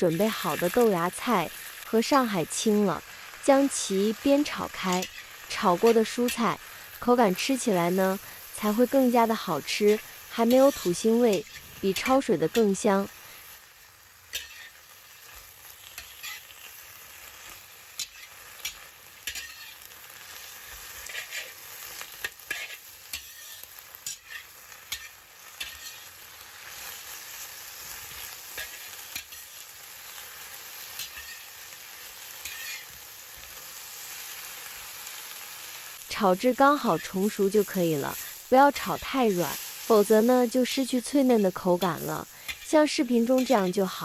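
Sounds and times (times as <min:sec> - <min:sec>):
vegetables sizzling in hot oil: 0:00.0 - 0:44.0.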